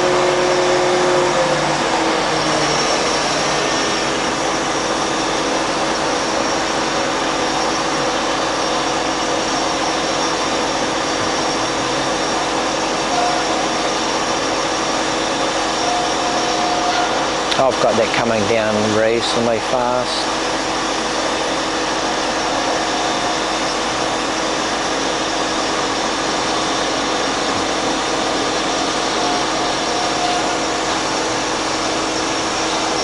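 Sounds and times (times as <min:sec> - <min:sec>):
bandsaw whirring: 0:00.0 - 0:19.0, 0:19.8 - 0:33.0
steady hums: 0:00.0 - 0:33.0.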